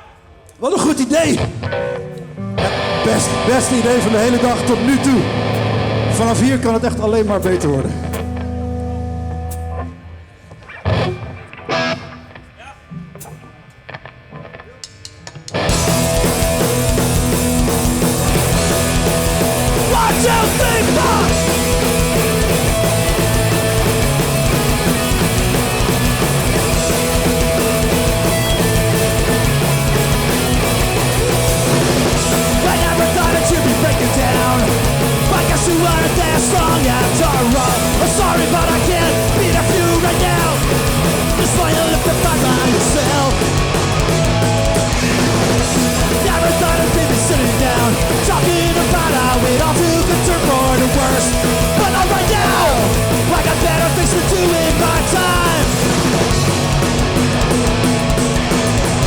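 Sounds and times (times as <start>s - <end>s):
drums: 0.0s - 59.0s
distorted electric guitars: 0.8s - 59.0s
bass guitar: 1.2s - 12.3s, 15.4s - 59.0s.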